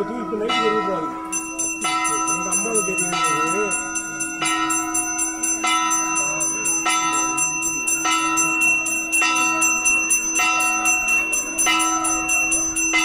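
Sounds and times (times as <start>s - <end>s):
metal bell ringing: 0.0s - 13.0s.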